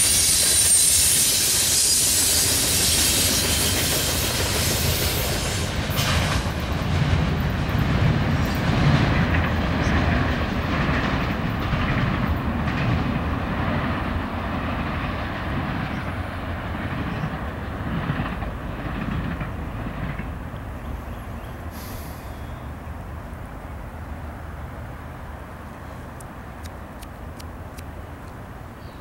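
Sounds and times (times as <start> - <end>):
train cars rumbling on rails: 0.0 - 29.0.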